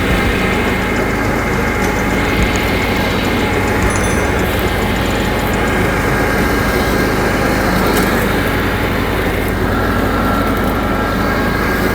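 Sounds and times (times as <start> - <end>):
riding lawn mower engine running: 0.0 - 11.9.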